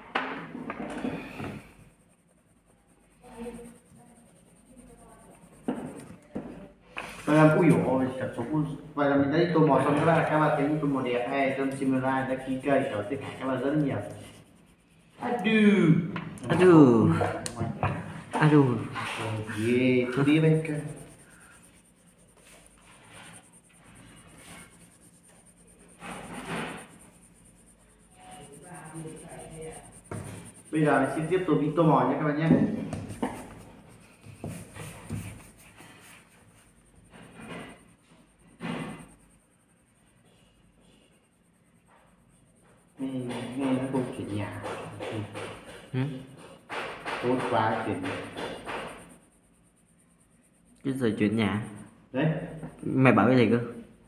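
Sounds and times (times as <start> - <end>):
pencil shading on paper: 0.2 - 54.0.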